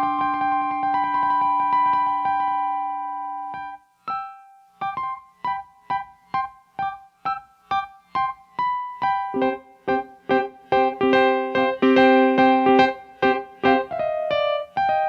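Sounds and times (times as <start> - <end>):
piano chord and single notes: 0.0 - 15.0.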